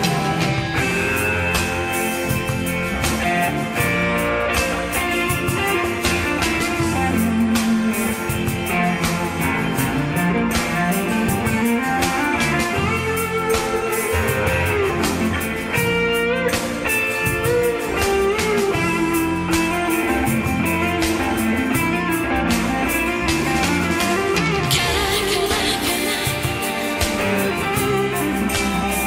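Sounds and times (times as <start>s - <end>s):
bass: 0.0s - 29.0s
guitar melody with sliding notes: 0.0s - 29.0s
steady drum beat: 0.0s - 29.0s.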